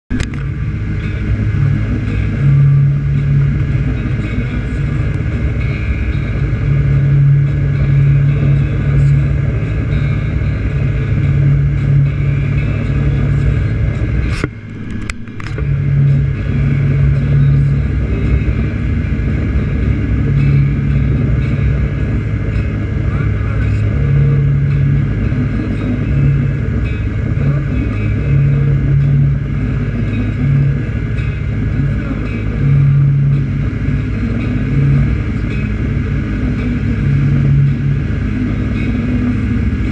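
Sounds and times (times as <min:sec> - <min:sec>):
motorboat engine hum: 0:00.0 - 0:39.9.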